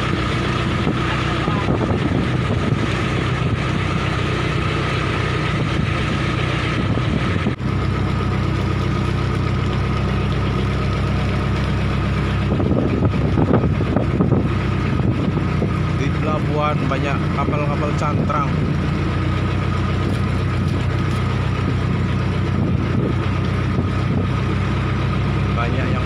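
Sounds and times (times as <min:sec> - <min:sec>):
boat engine throbbing: 0:00.0 - 0:26.0
water rushing against hull: 0:00.0 - 0:26.0.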